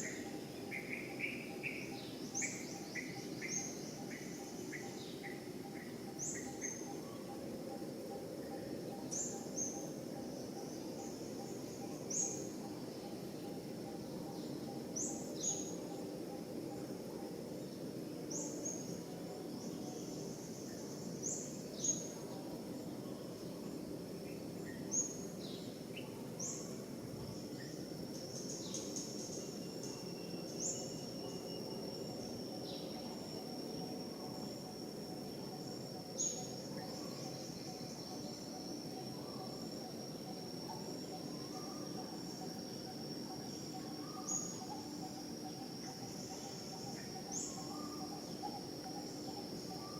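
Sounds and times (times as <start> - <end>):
high-pitched insect trill: 0.0 - 49.9.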